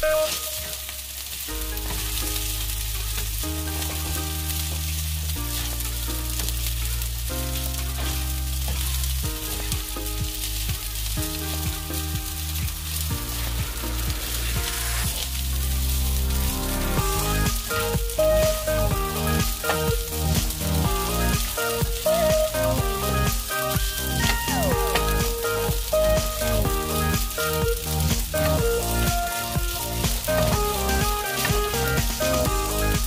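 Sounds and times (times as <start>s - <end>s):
background music with bass line: 0.0s - 33.0s
rice sizzling in frying pan: 0.0s - 33.0s.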